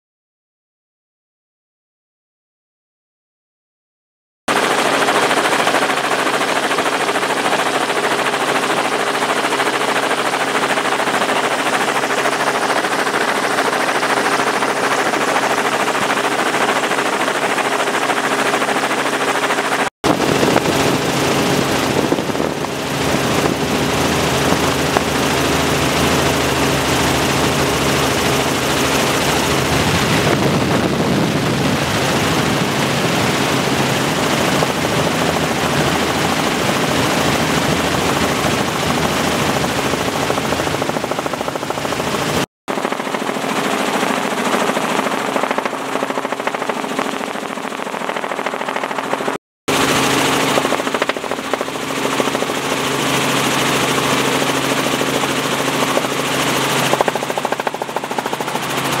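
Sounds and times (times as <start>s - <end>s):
helicopter engine and rotor chop: 4.5s - 59.0s.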